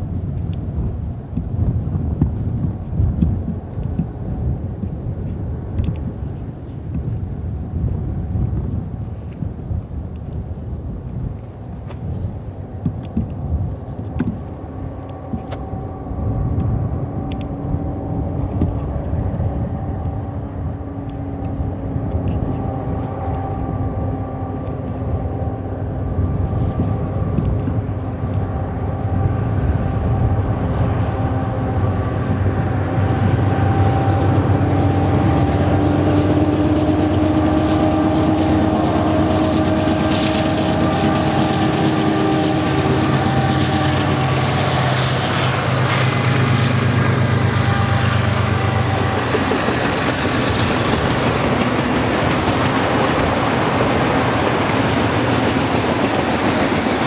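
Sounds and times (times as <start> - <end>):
locomotive diesel engines humming: 0.0 - 57.0.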